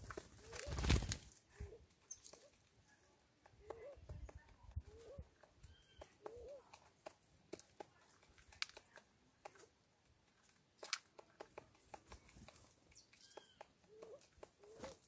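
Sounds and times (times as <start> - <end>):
birds pecking seed: 0.0 - 15.0.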